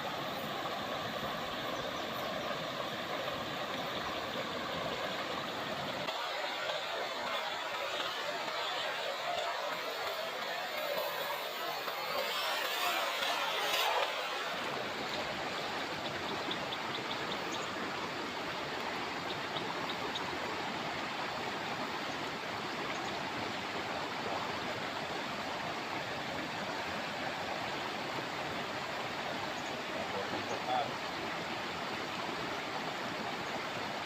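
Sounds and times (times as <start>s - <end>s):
flowing river water: 0.0s - 34.0s.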